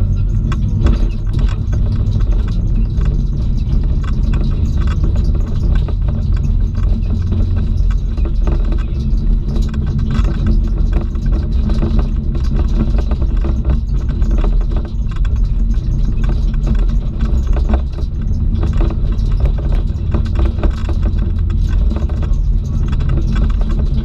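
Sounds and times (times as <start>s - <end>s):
car engine and tyres rumbling: 0.0s - 24.0s
small clicks and rattles: 0.0s - 24.0s.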